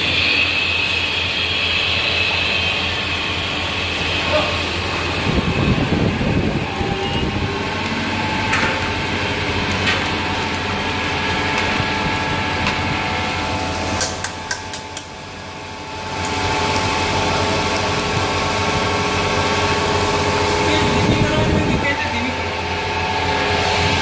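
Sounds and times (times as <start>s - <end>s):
machine motor hum: 0.0s - 24.0s.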